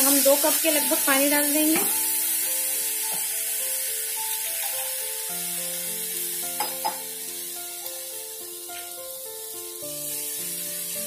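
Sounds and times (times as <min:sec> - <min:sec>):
food sizzling in a pan: 0:00.0 - 0:11.0
slow background music: 0:00.0 - 0:11.0.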